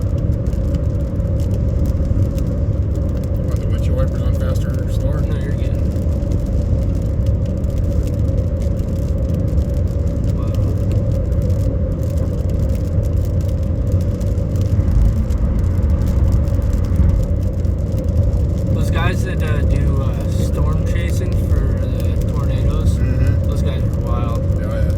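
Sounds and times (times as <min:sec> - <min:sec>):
road and engine rumble in car: 0:00.0 - 0:24.9.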